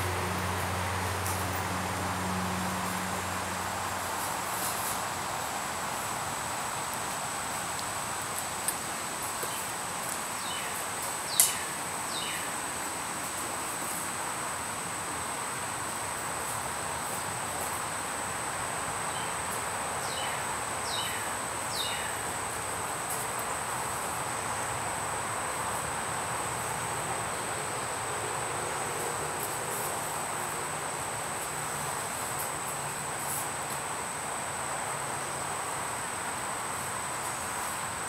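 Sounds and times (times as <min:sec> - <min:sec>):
outdoor noise: 0:00.0 - 0:38.0.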